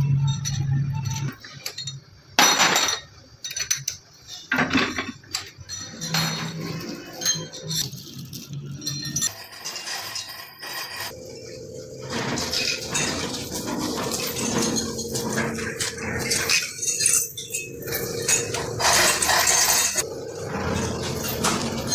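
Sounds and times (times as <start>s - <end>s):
metal parts clinking: 0.0s - 21.9s.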